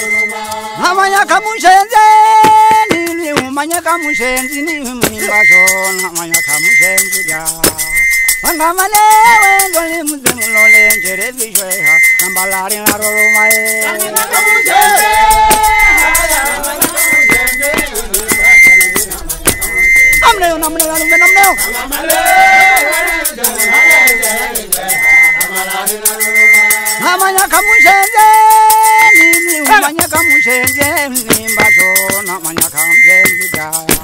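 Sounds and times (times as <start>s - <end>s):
whistle blown in short blasts: 0.0s - 33.8s
drumming: 0.0s - 34.0s
gourd shakers: 0.0s - 34.0s
group singing: 0.0s - 34.0s
percussion strokes: 0.0s - 34.0s.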